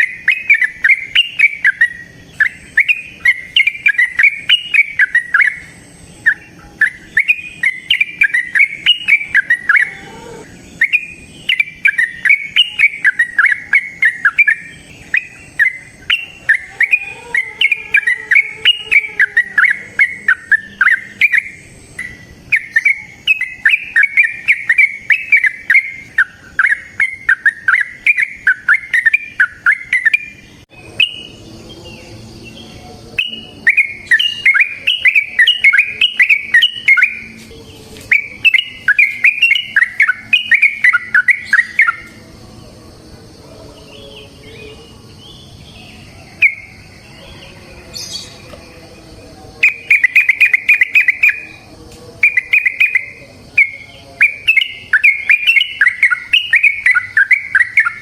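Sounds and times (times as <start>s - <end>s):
bulbul singing rapid notes: 0.0s - 31.4s, 33.0s - 37.4s, 38.1s - 42.4s, 49.1s - 58.0s.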